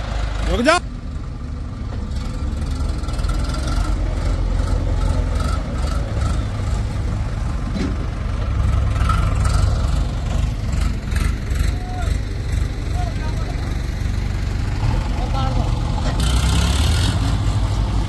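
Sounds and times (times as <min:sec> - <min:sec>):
diesel tractor engine under load: 0:00.0 - 0:18.0.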